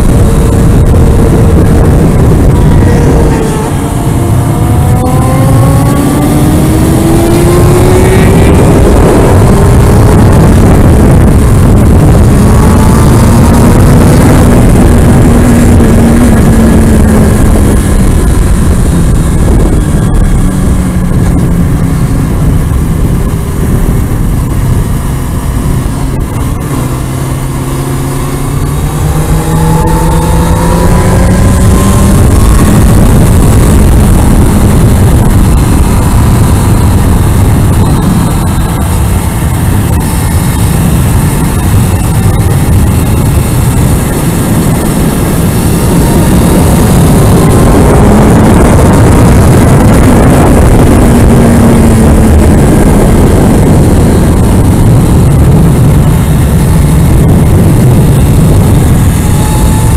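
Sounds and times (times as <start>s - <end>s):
motorcycle engine at speed: 0.0s - 59.9s
wind rushing on microphone: 0.0s - 59.9s.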